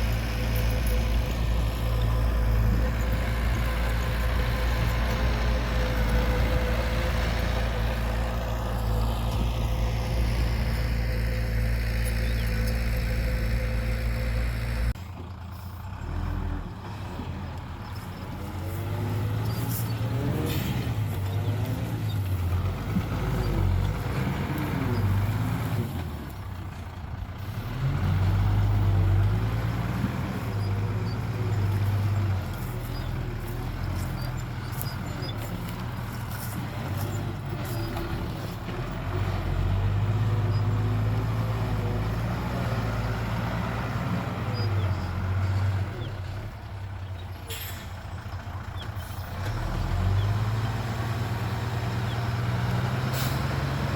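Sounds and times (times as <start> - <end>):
diesel machinery revving: 0.0 - 53.9.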